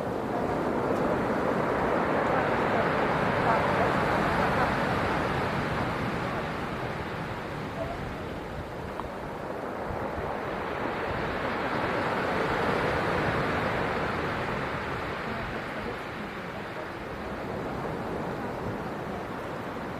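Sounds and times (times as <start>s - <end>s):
stormy surf breaking on shore: 0.0s - 19.9s.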